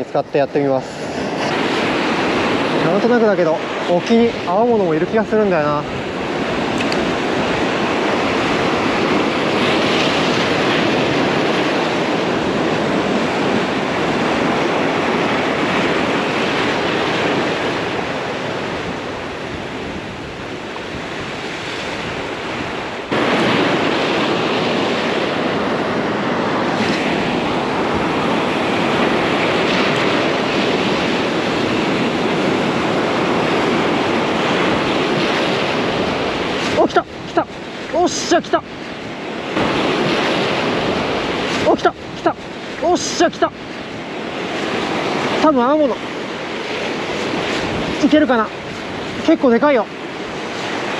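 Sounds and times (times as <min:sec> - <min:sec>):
heavy surf breaking on boulders: 0:00.0 - 0:50.9
wind buffeting microphone: 0:00.0 - 0:50.9.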